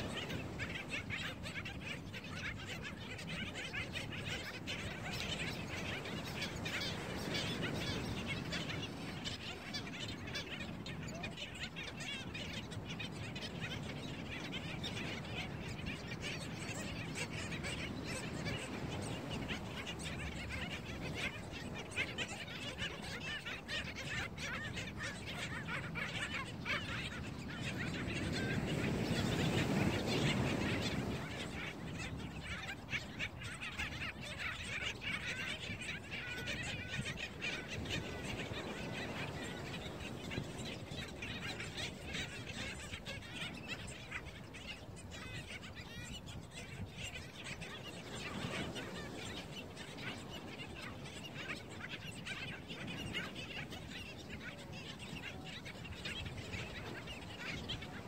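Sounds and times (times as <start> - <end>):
seabird colony calling: 0.0 - 58.0.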